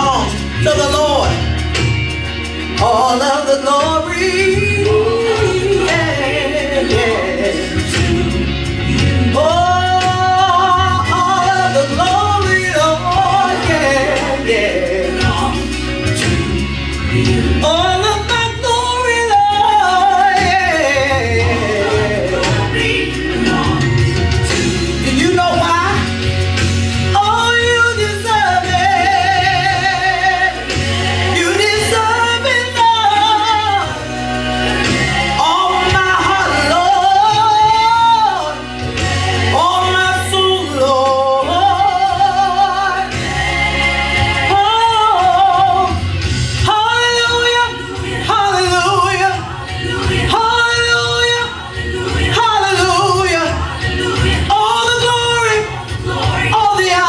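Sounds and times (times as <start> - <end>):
woman singing gospel solo: 0.0 - 1.7, 2.6 - 57.0
instrumental backing with bass line: 0.0 - 57.0.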